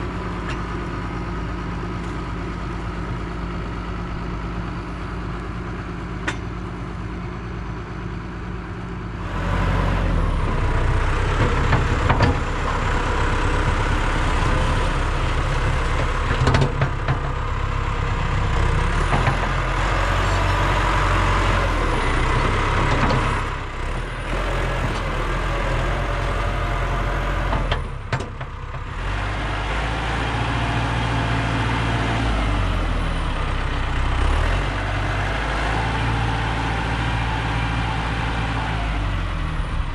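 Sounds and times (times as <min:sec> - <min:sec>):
heavy diesel engine: 0:00.0 - 0:39.9.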